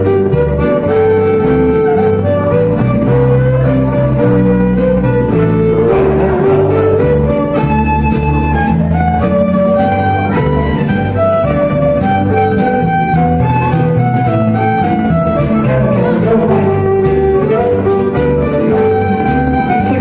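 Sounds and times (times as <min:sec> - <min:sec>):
live folk dance band: 0:00.0 - 0:20.0.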